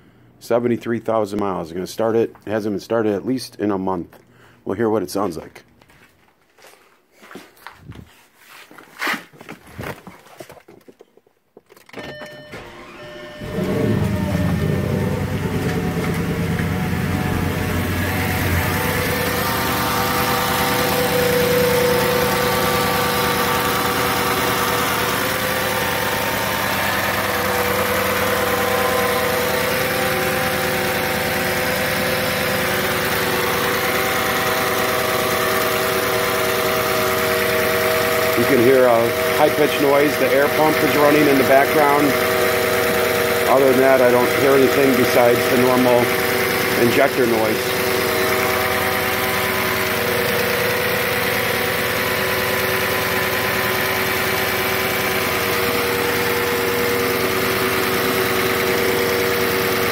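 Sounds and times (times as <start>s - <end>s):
car engine starting and idling: 11.8s - 59.9s.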